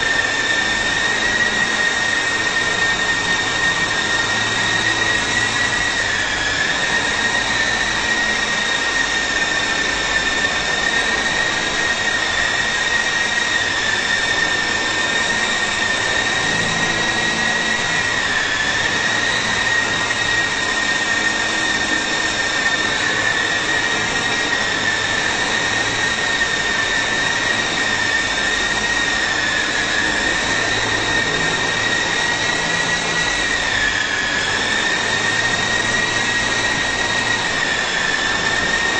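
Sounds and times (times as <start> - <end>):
toy helicopter motor whine: 0.0 - 38.9.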